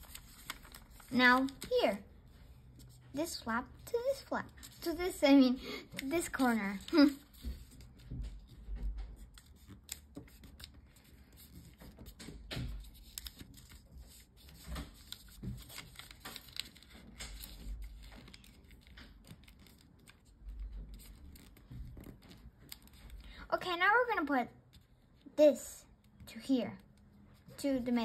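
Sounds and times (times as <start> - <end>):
paper rustling and crinkling: 0.0 - 23.4.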